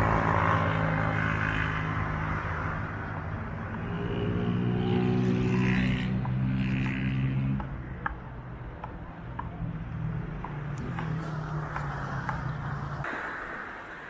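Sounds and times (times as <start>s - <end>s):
engine humming: 0.0s - 13.1s.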